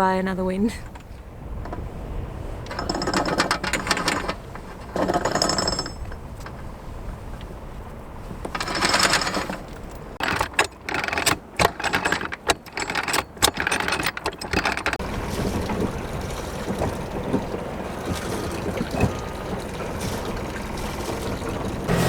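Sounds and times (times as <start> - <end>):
wind gusting over microphone: 0.0 - 10.2, 14.4 - 22.0
water rushing along hull: 0.0 - 11.6, 14.7 - 22.0
sharp crackles and knocks: 2.6 - 22.0.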